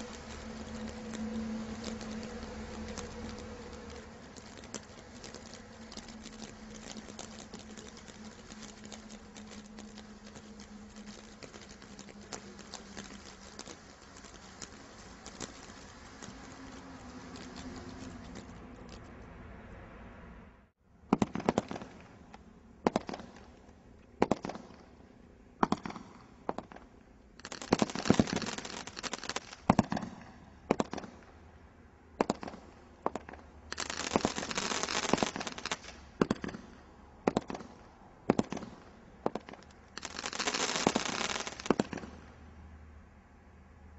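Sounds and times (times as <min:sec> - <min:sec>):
fireworks bangs: 0:00.0 - 0:19.4, 0:21.1 - 0:31.4, 0:32.2 - 0:42.4
fireworks crackling: 0:00.0 - 0:19.8, 0:21.1 - 0:31.4, 0:32.2 - 0:42.5.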